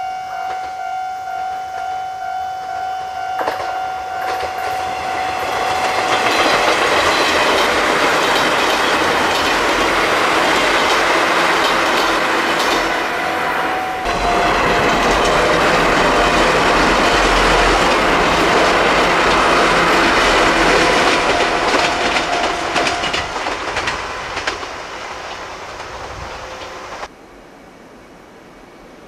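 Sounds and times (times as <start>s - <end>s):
electric train passing: 0.0s - 29.0s
train wheels clicking on track: 3.4s - 27.1s.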